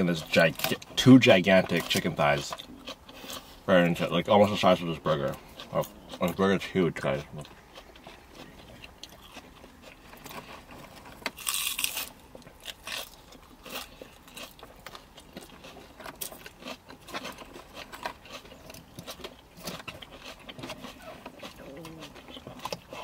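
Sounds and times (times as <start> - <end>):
chewing and crunchy bites: 0.0 - 23.0.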